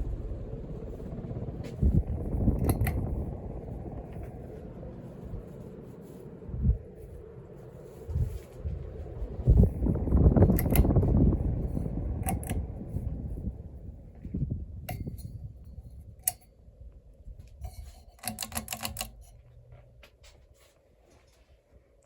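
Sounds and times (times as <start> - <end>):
fan clicks: 0.0 - 16.5, 17.3 - 20.4
ceiling fan air rushing: 0.0 - 22.0.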